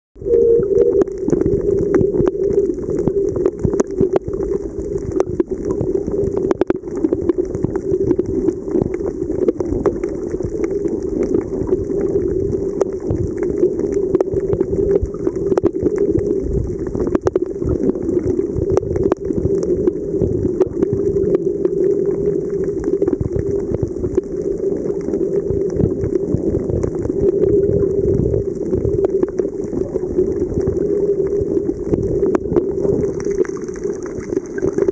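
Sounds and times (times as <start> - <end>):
faint clicks and crackles: 0.2 - 34.9
muffled underwater noise: 0.2 - 34.9.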